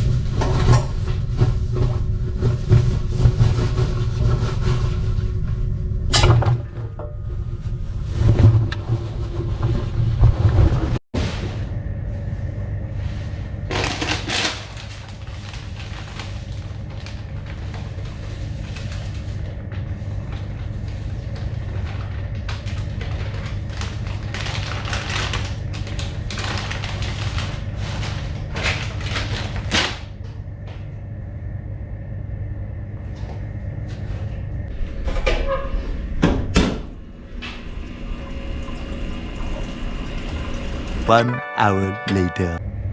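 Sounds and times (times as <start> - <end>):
low machinery hum: 0.0 - 41.3.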